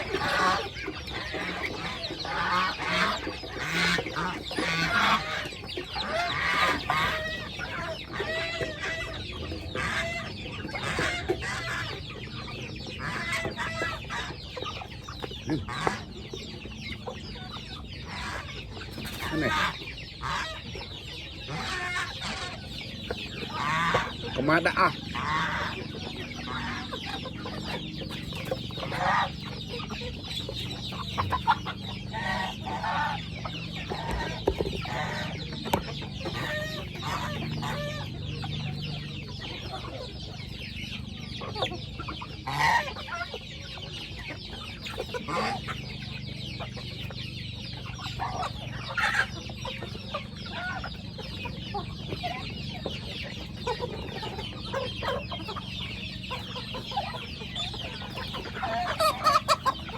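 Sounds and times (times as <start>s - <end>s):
chicken squawks: 0.0s - 40.7s, 41.3s - 59.9s
chickens clucking: 0.0s - 59.9s.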